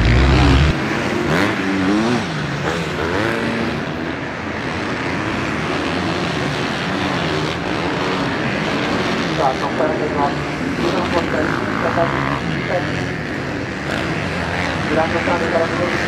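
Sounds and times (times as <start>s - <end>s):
motorbike engines revving: 0.0s - 16.0s.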